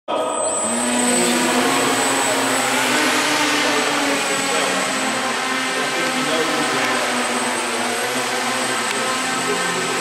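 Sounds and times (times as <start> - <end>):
model aircraft motors buzzing: 0.4 - 10.0.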